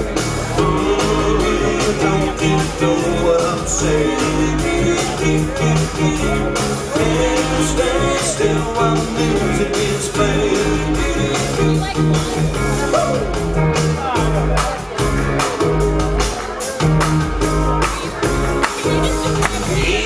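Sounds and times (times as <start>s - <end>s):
live rock band playing: 0.0s - 20.0s
pulsing bass line: 0.0s - 20.0s.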